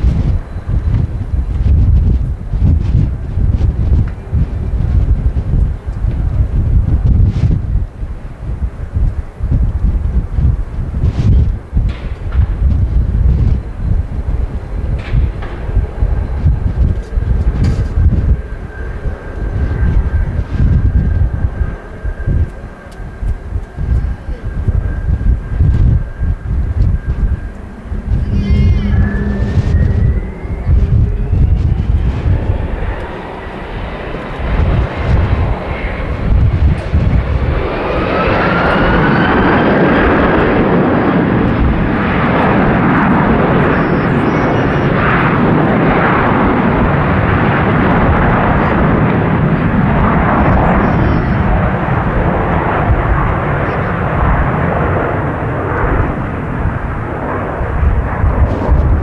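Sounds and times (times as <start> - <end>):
jet engine roar: 0.0 - 59.0
jet engines spooling up: 0.0 - 59.0.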